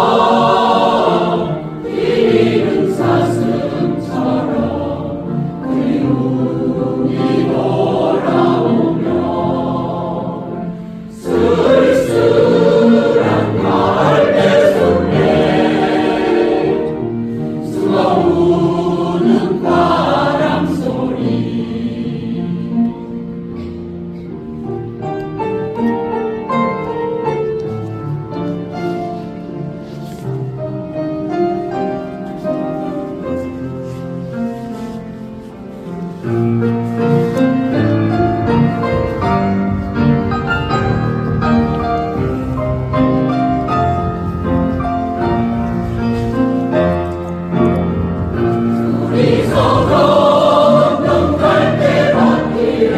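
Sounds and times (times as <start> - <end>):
choir singing slow song: 0.0 - 23.9, 32.6 - 52.9
instrumental accompaniment: 0.0 - 52.9.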